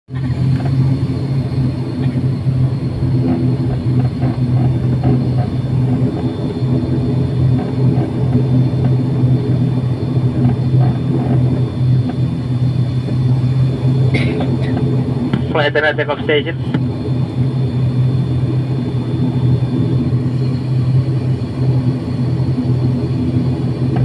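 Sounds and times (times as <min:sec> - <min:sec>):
turboprop engine low hum: 0:00.0 - 0:24.0
thin high whine: 0:00.1 - 0:24.0.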